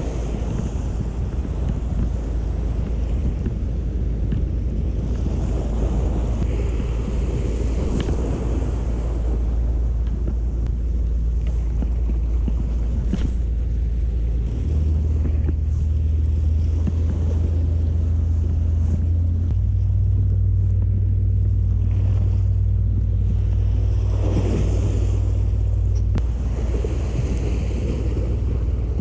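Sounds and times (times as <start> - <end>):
surf washing against rocks: 0.0 - 29.0
wave breaking: 0.0 - 29.0
wind buffeting microphone: 0.0 - 29.0.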